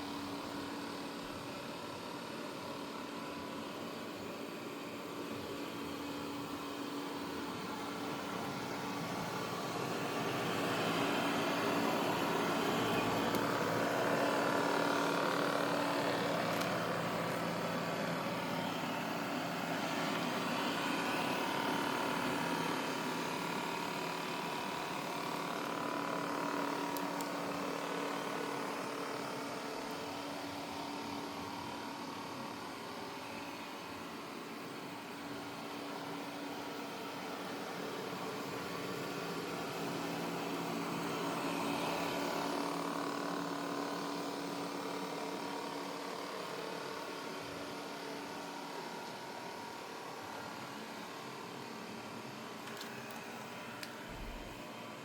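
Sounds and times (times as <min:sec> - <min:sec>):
robot vacuum motor hum: 0:03.6 - 0:55.0.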